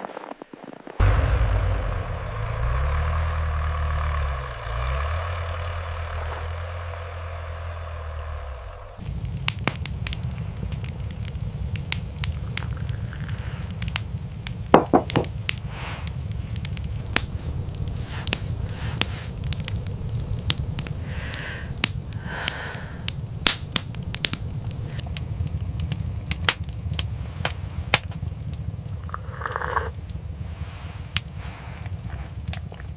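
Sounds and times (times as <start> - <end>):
wood fire crackling and popping: 0.0 - 32.9.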